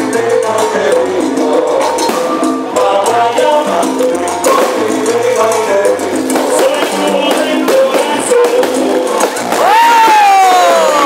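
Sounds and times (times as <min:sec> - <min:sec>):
music with bass and percussion: 0:00.0 - 0:11.0.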